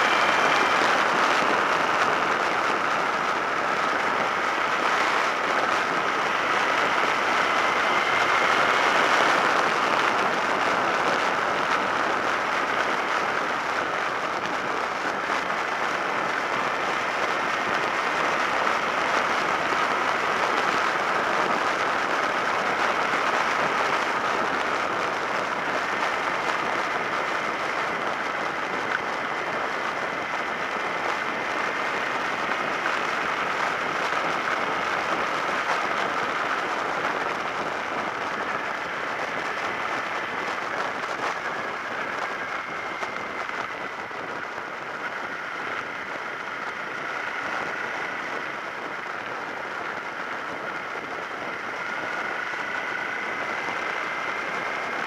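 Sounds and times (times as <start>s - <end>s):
motorcycle road noise: 0.0s - 55.0s
wind rush on microphone: 0.0s - 55.0s.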